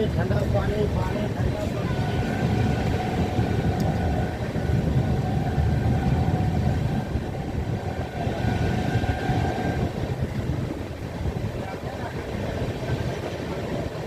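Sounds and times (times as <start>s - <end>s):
faint steady whine: 0.0s - 14.0s
train rumbling on rails: 0.0s - 14.0s.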